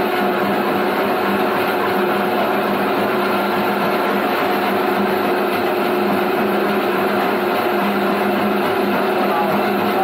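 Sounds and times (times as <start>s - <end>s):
pulping machine humming: 0.0s - 10.0s.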